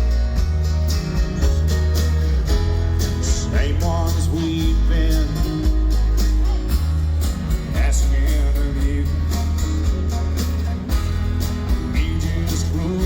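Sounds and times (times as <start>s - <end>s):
sliding lead melody: 0.0s - 13.0s
steady bass: 0.0s - 13.0s
strummed acoustic guitars: 0.0s - 13.0s.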